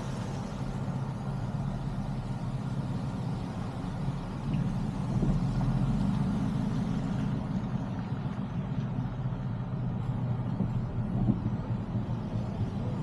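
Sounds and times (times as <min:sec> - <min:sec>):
road noise low rumble: 0:00.0 - 0:13.0.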